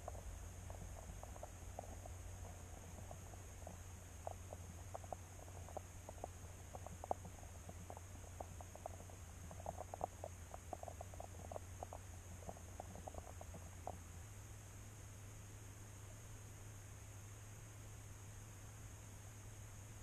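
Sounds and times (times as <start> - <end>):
electrical hum and whine: 0.0 - 20.0
soft ticks and chirps: 0.0 - 20.0.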